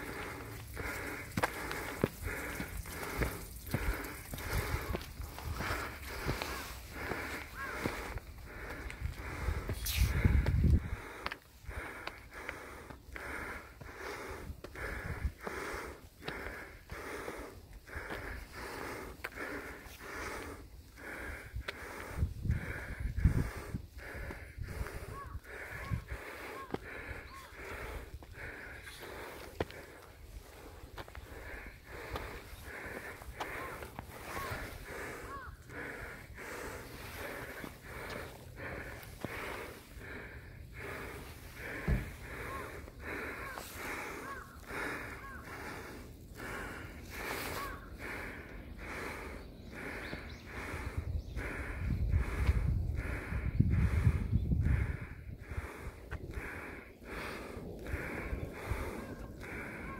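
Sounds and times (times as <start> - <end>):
person breathing hard: 0.0 - 59.9.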